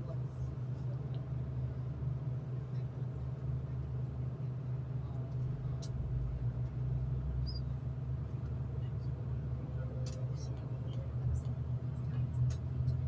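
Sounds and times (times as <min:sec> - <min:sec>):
train engine hum and rumble: 0:00.0 - 0:13.0.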